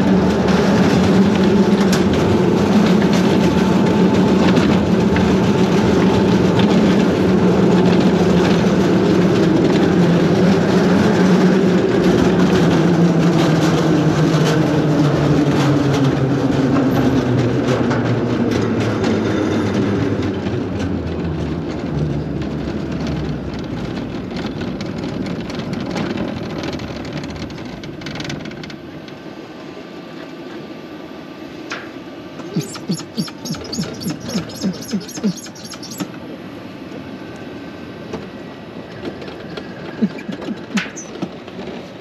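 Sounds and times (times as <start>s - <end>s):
sled wheels rumbling on metal track: 0.0s - 30.3s, 32.5s - 42.0s.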